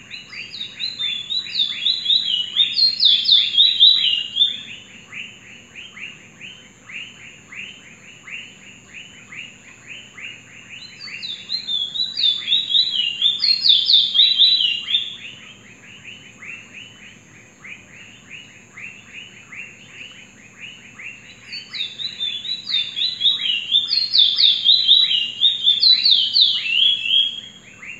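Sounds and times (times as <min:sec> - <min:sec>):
high warbled bird phrases: 0:00.2 - 0:27.9.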